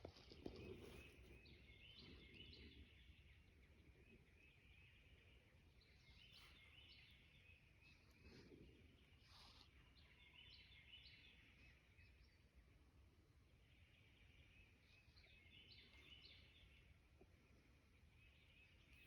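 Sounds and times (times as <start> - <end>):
faint songbirds chirping: 0.0 - 19.0.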